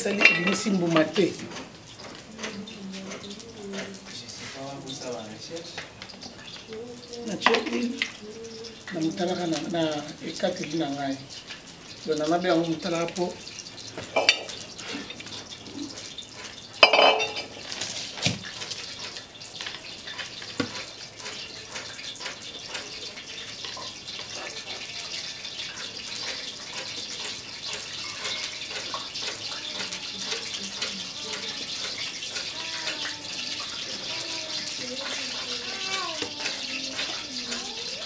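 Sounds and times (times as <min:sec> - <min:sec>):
utensils scraping a metal pot: 0:00.0 - 0:38.0.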